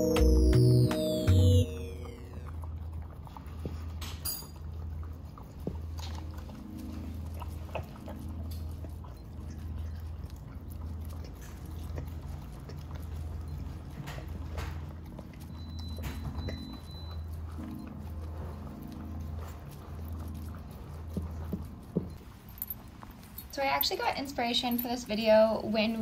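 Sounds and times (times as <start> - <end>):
dog lapping and chewing: 1.6 - 26.0.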